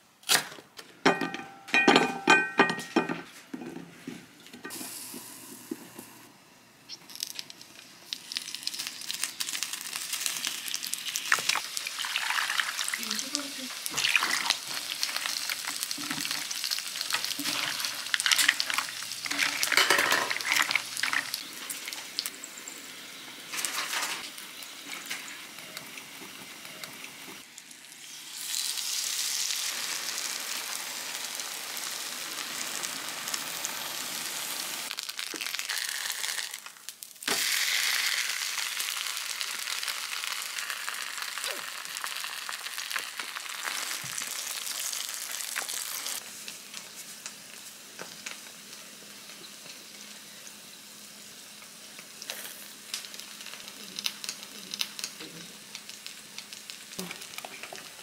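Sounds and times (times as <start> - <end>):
food sizzling in oil: 6.9 - 58.0.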